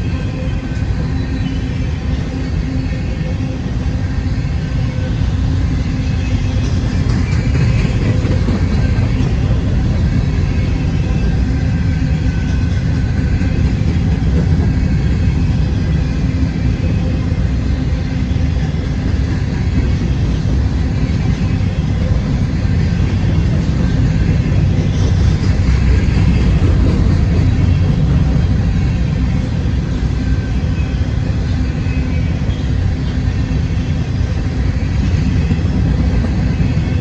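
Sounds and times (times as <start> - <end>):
freight train rumbling past: 0.0 - 37.0.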